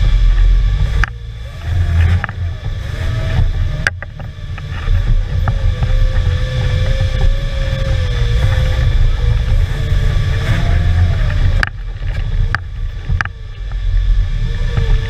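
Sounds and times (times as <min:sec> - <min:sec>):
vehicle engine running hard: 0:00.0 - 0:15.0
wavering whine: 0:00.0 - 0:15.0.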